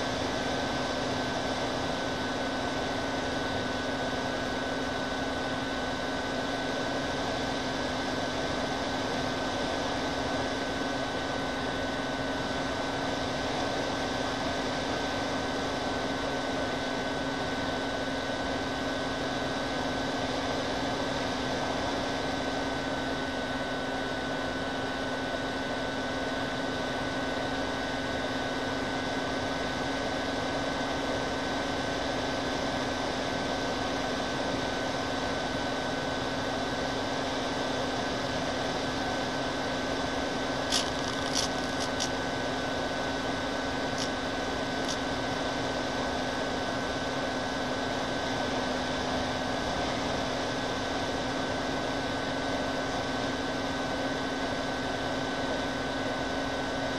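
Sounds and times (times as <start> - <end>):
model airplane motors droning: 0.0 - 56.9.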